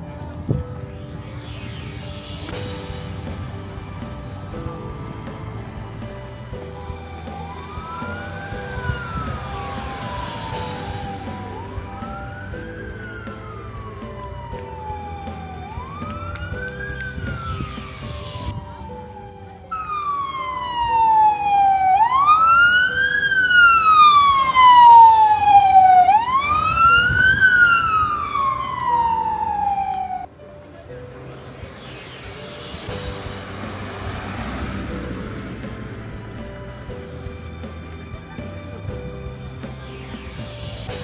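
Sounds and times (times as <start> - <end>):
emergency vehicle siren wailing: 0.0 - 41.0.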